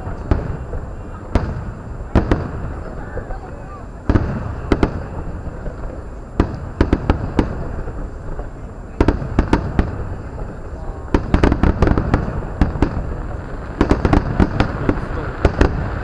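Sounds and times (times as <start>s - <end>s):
fireworks cracking and popping: 0.0s - 16.0s.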